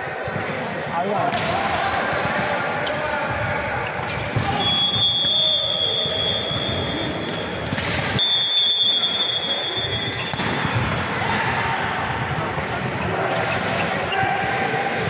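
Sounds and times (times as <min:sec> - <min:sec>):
volleyball hits: 0:00.3 - 0:08.3, 0:09.4 - 0:15.0.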